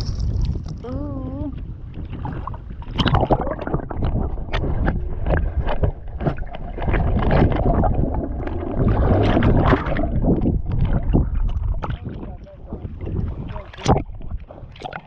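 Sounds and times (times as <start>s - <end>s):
water splashing and sloshing: 0.0s - 15.0s
wind rumbling on microphone: 0.0s - 15.0s.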